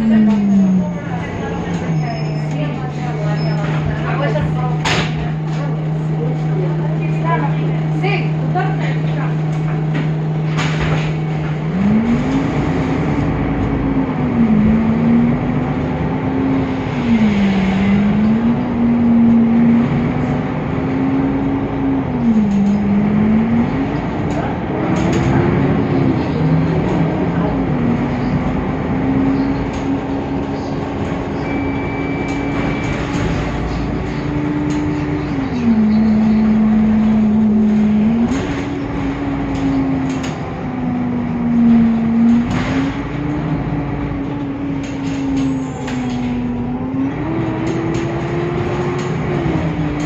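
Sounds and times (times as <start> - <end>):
bus engine rumble with whine: 0.0 - 50.0.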